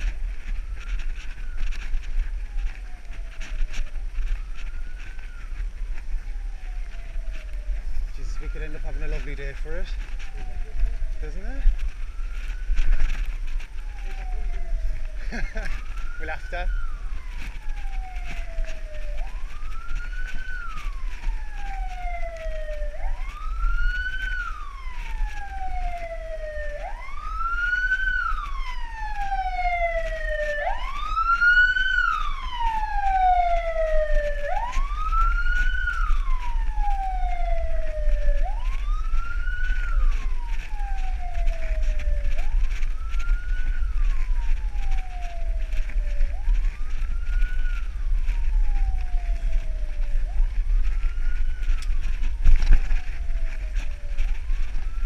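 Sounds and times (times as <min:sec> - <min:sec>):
emergency vehicle siren wailing: 0:00.0 - 0:55.0.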